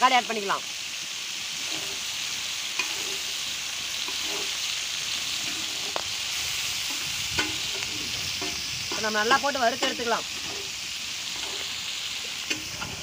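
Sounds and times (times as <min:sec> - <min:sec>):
food sizzling on a hot pan: 0:00.0 - 0:13.0.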